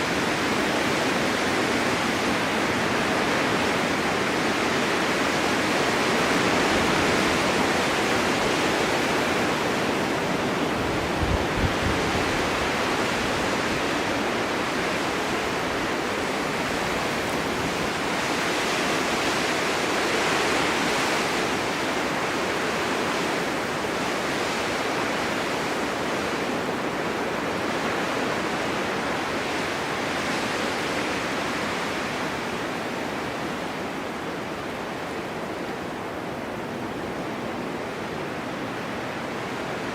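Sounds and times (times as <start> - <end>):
snowstorm wind blowing: 0.0 - 39.9.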